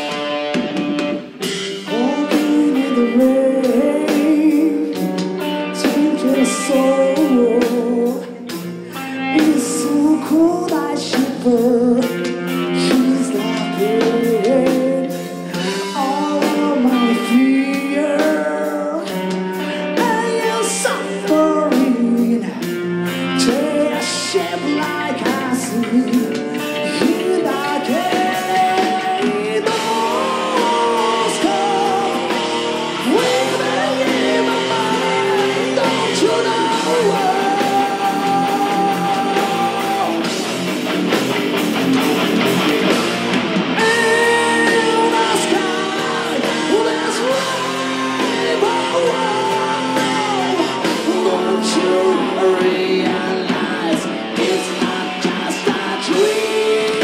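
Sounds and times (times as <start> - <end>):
bass guitar: 0.0 - 57.0
drums: 0.0 - 57.0
electric guitar: 0.0 - 57.0
man singing: 1.7 - 40.7, 43.7 - 57.0.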